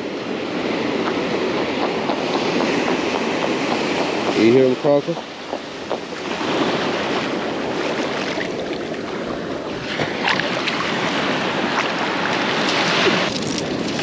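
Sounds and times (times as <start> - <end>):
ocean surf washing on beach: 0.0 - 14.0
wind buffeting microphone: 0.0 - 14.0.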